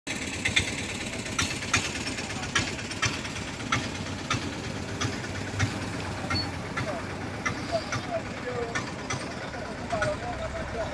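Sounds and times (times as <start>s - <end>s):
diesel engine idling: 0.1s - 10.9s.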